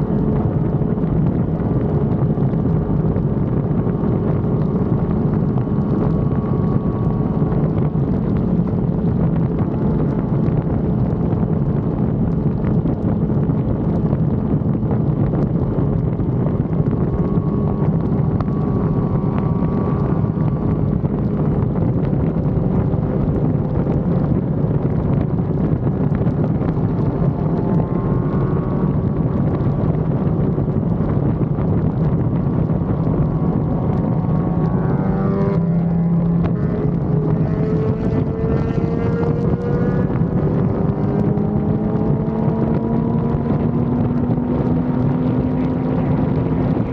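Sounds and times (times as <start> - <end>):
motorcycle engine running: 0.0 - 46.9
wind rushing over microphone: 0.0 - 46.9.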